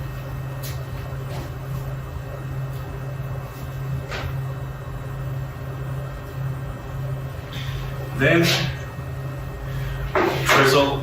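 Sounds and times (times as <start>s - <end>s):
low kitchen hum: 0.0s - 11.0s.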